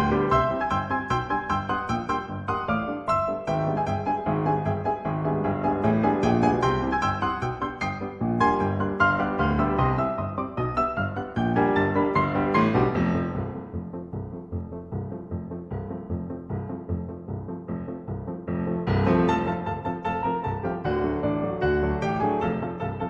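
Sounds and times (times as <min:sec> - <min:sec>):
piano music with steady beat: 0:00.0 - 0:23.0.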